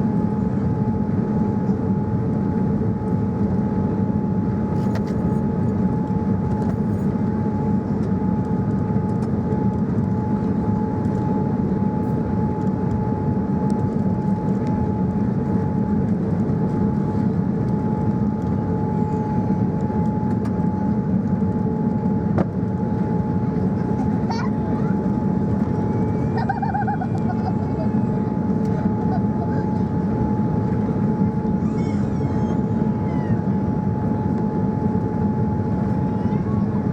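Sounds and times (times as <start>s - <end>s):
airplane cabin low rumble: 0.0s - 36.9s.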